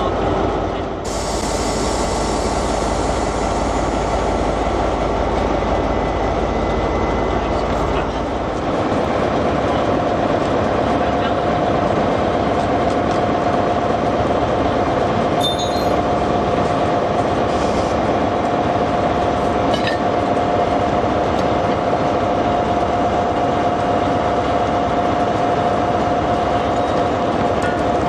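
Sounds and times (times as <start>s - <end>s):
diesel locomotive idling: 0.0s - 28.0s.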